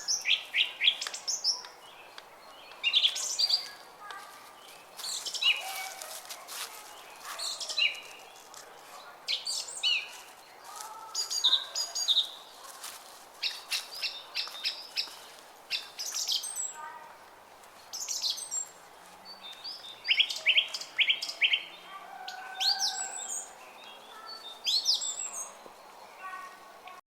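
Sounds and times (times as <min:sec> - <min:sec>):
songbirds chirping and singing: 0:00.0 - 0:17.1, 0:17.7 - 0:27.0.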